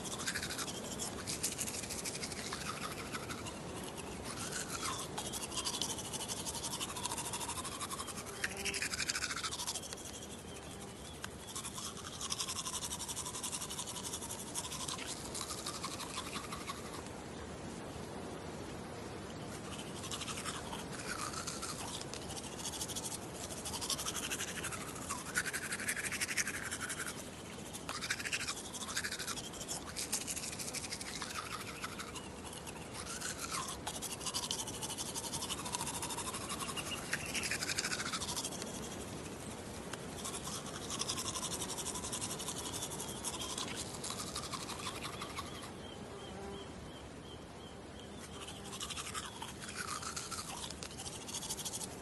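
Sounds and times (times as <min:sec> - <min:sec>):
toothbrush scrubbing teeth: 0:00.0 - 0:17.1, 0:19.6 - 0:45.7, 0:48.2 - 0:52.0.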